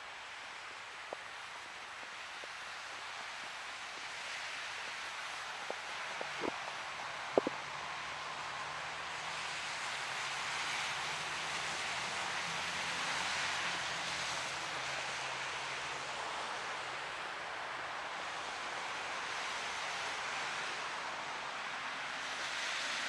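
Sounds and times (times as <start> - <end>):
tyres on wet road: 0.0 - 23.0.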